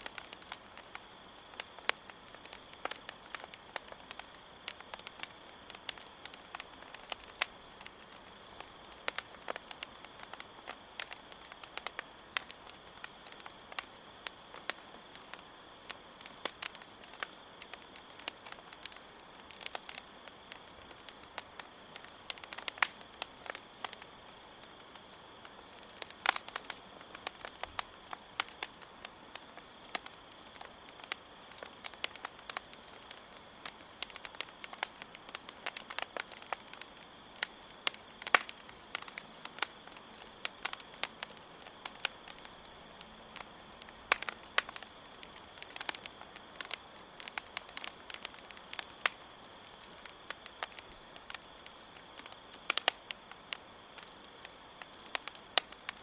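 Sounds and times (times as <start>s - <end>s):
campfire crackling and popping: 0.0s - 56.0s
crickets trilling: 0.0s - 56.0s.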